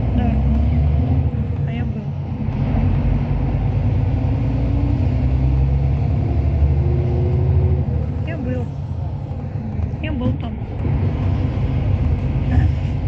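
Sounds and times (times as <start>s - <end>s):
coach engine and road noise: 0.0s - 13.0s.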